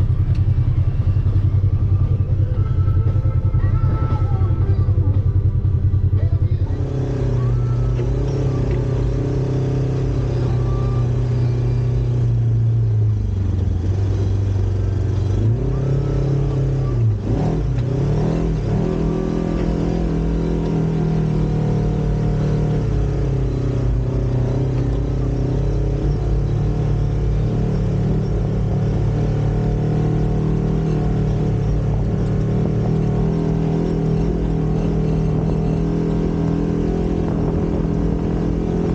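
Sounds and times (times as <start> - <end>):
utility vehicle engine revving: 0.0 - 38.9.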